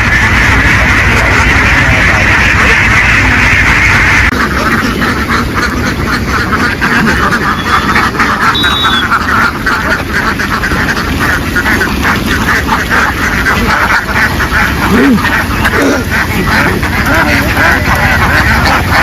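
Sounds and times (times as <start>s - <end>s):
flock of ducks quacking: 0.0s - 19.0s
steady low rumble: 0.0s - 19.0s.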